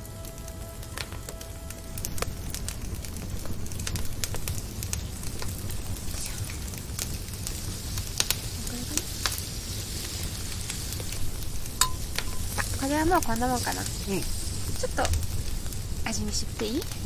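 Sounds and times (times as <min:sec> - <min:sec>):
fire crackling and popping: 0:00.0 - 0:17.0
low rumble: 0:00.0 - 0:17.0
squash sizzling in grill pan: 0:00.8 - 0:17.0.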